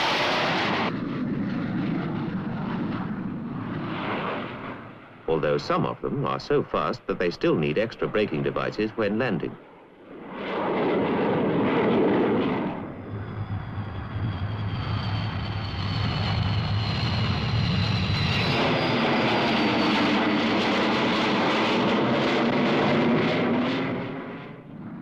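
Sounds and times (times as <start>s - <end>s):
jet engine whine: 0.0s - 25.0s.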